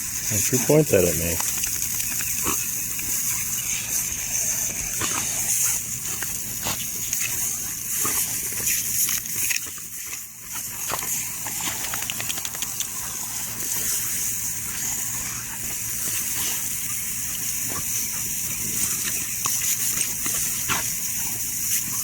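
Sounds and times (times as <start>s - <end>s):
lawn sprinkler spraying water: 0.0s - 22.0s
faint irregular ticks: 0.2s - 22.0s.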